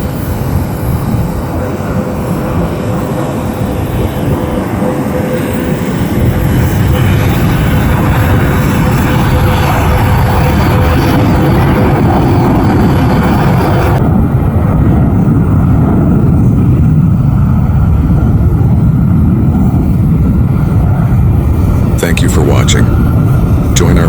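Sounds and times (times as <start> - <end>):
engine whine: 0.0 - 24.0
jet engines roaring: 0.0 - 24.0.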